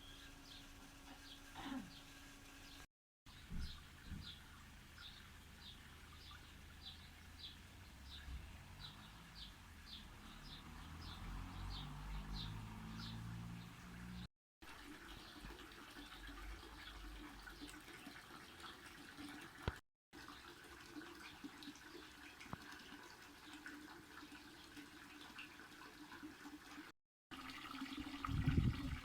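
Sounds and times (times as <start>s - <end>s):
running water splashing and trickling: 3.3s - 29.0s.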